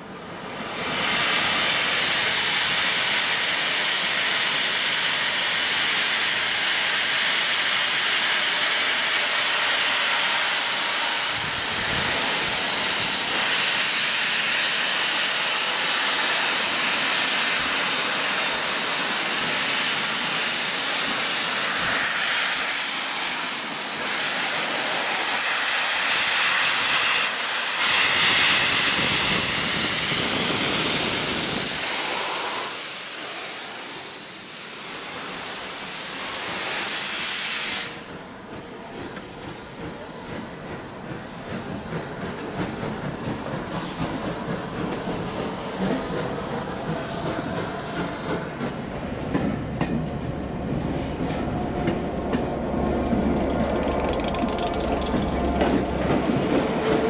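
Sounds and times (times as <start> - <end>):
steam hissing from locomotive: 0.0 - 57.0.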